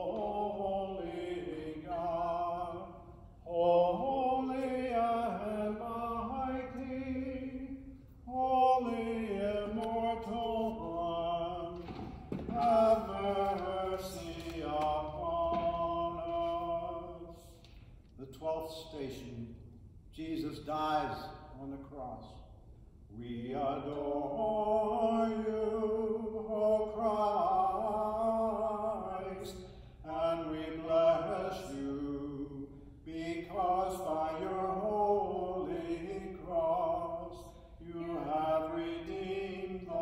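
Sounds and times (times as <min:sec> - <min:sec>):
unaccompanied chanted hymn singing: 0:00.0 - 0:17.7, 0:23.2 - 0:40.0.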